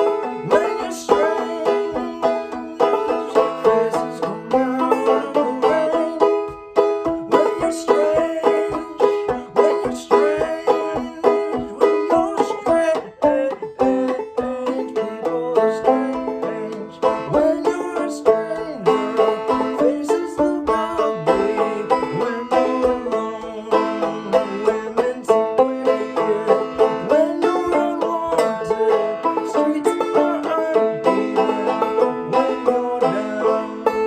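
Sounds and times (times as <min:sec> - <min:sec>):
banjo playing minor melody: 0:00.0 - 0:34.0.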